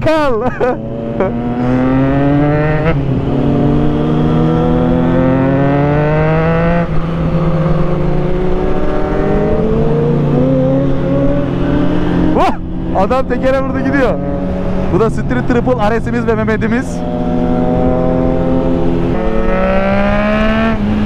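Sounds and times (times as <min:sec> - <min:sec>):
motorcycle engine accelerating: 0:00.6 - 0:21.0.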